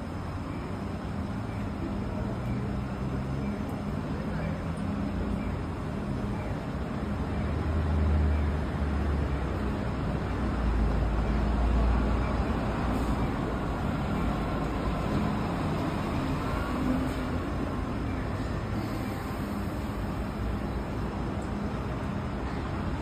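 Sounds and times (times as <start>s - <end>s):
street traffic: 0.0s - 23.0s
tram humming: 0.0s - 23.0s.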